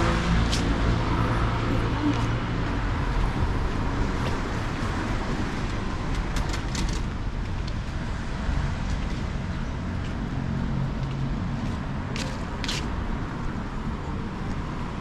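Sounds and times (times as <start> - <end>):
passing cars rumbling: 0.0 - 15.0.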